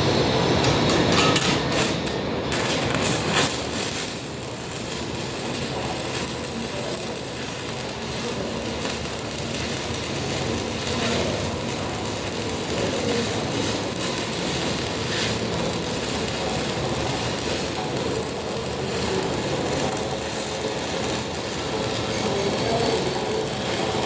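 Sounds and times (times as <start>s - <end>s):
arc welding crackling hiss: 1.4s - 24.0s.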